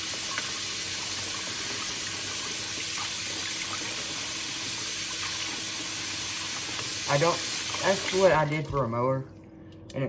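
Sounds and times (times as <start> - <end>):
tap water running: 0.0 - 9.5.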